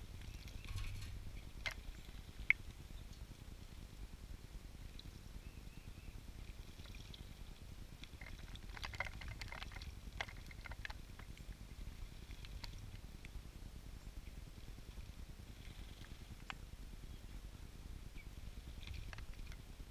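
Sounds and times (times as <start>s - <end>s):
low steady rumble: 0.0s - 19.9s.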